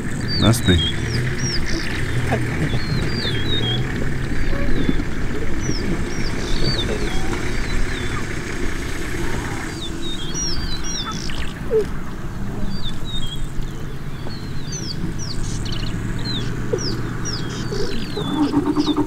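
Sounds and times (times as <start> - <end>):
low steady rumble: 0.0 - 19.0
wild birds chirping: 0.0 - 19.0.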